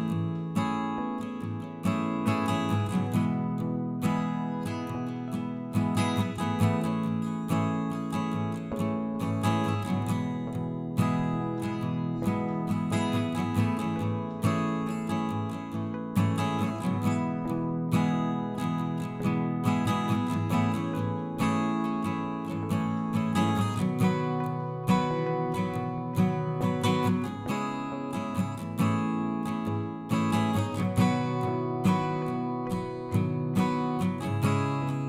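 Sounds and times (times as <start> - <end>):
acoustic guitar plucked and strummed: 0.0 - 35.0.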